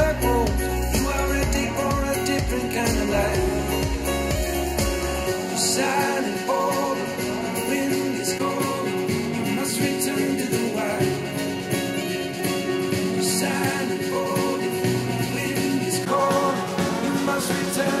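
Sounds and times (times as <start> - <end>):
song with singing over speakers: 0.0 - 18.0.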